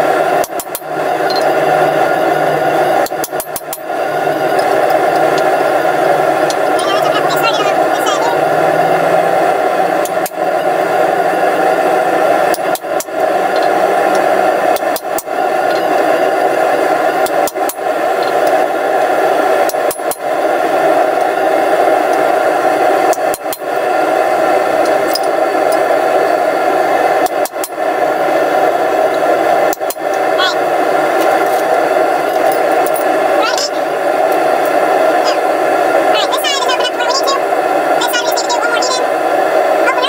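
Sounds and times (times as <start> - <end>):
steady background roar: 0.0 - 40.0.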